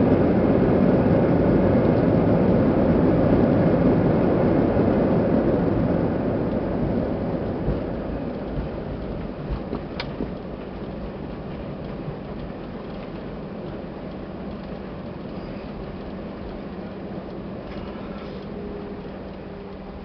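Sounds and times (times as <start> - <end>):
jet engine and rolling noise: 0.0 - 20.0.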